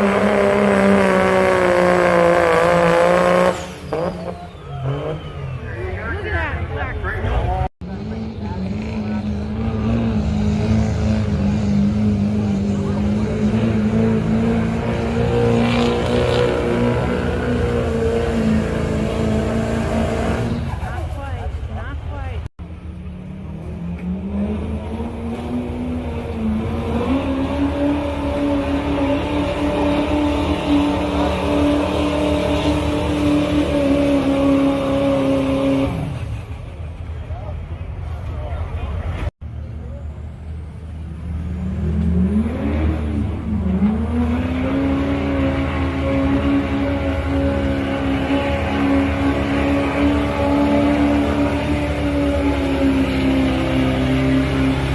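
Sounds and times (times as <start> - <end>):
diesel truck engine under load: 0.0 - 54.9.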